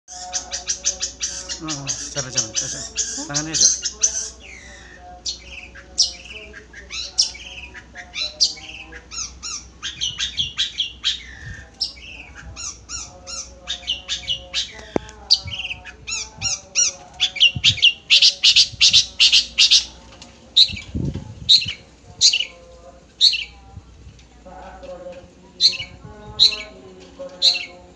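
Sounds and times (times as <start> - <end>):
bird chattering song: 0.1 - 20.0, 20.6 - 22.6, 23.2 - 23.6, 25.6 - 27.9.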